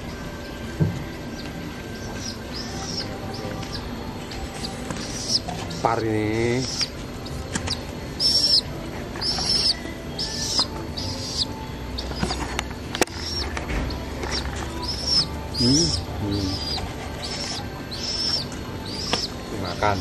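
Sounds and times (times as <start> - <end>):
high-pitched bird chirps: 2.0 - 4.0, 4.6 - 20.0.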